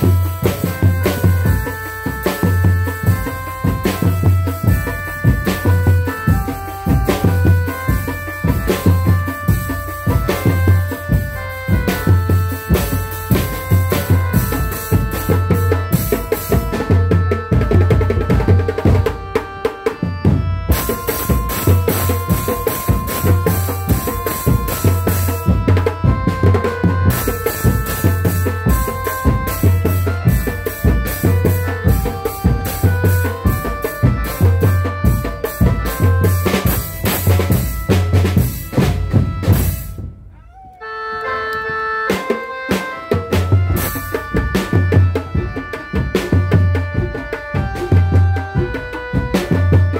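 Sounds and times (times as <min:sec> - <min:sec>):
drum-led music: 0:00.0 - 0:40.6, 0:41.6 - 0:49.9.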